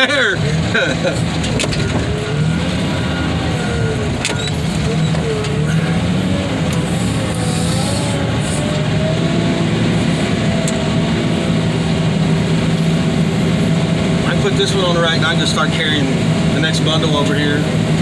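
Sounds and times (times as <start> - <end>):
heavy machine engine under load: 0.0 - 18.0.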